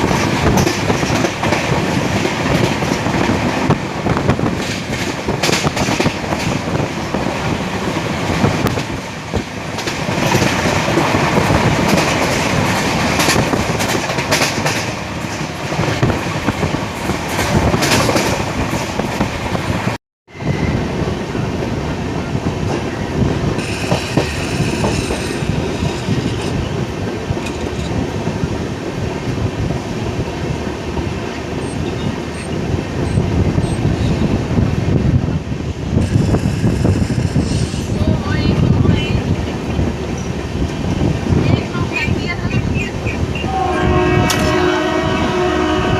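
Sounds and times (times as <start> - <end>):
train rumble and rattle: 0.0 - 45.9.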